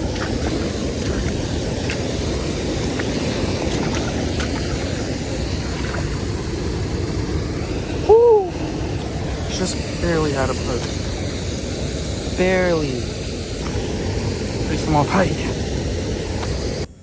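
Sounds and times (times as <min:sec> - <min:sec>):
water rushing: 0:00.0 - 0:16.9
wind on microphone: 0:00.0 - 0:16.9.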